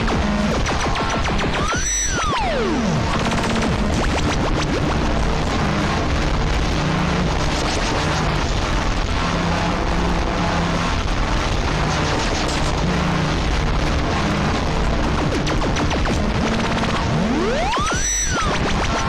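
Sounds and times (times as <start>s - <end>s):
distorted noise music: 0.0s - 19.0s.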